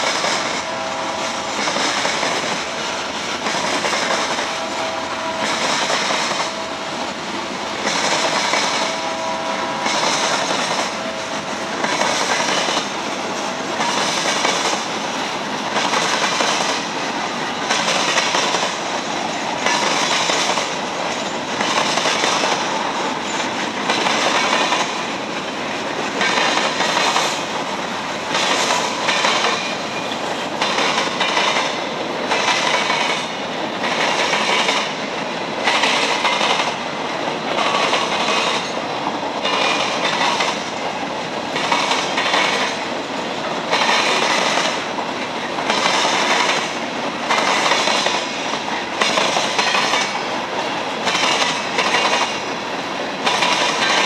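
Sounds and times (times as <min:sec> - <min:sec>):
train wheels clattering: 0:00.0 - 0:54.0.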